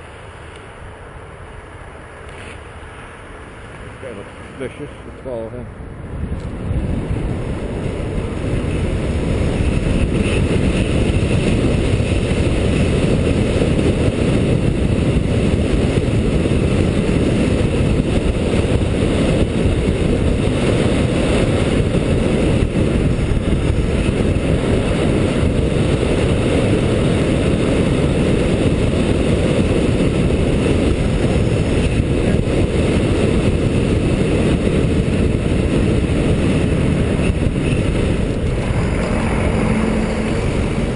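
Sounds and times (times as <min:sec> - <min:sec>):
wind buffeting microphone: 0:02.6 - 0:40.9.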